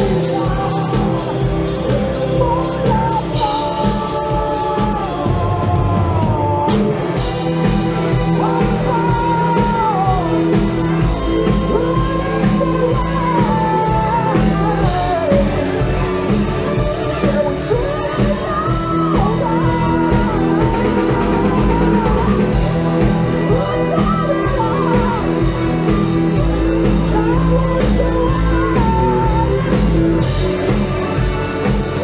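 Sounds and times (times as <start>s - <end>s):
high sung lead vocal: 0.0s - 32.0s
live hard rock band: 0.0s - 32.0s.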